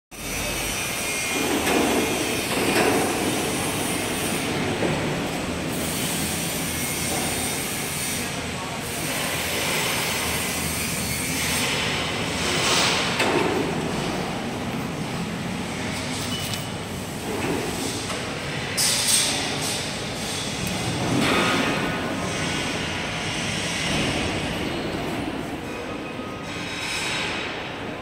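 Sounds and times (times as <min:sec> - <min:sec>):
industrial machinery rumbling and hissing: 0:00.1 - 0:28.0.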